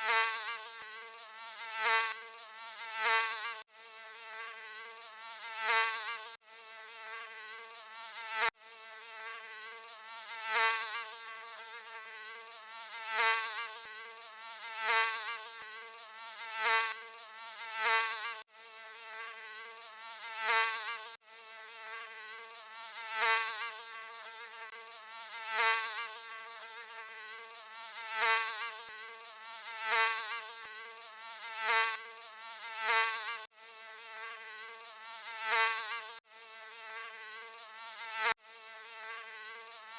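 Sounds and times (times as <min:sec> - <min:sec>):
mosquito buzzing: 0:00.0 - 0:39.9.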